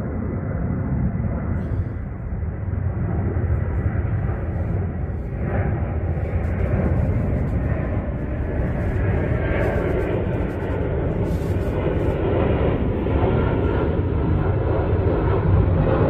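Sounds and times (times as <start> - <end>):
steady low rumbling: 0.0 - 16.0.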